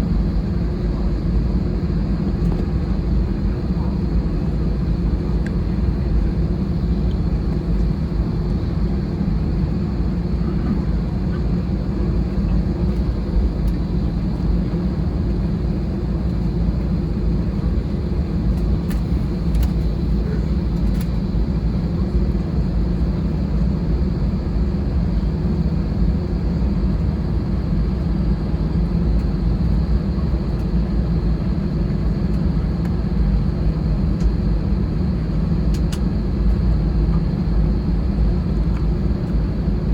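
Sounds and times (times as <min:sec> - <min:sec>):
aircraft engine hum in cabin: 0:00.0 - 0:39.9.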